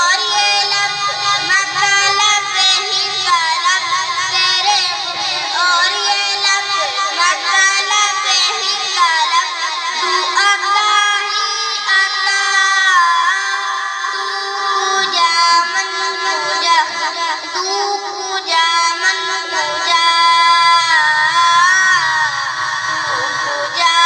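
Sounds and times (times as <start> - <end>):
high-pitched voice singing: 0.0 - 24.0.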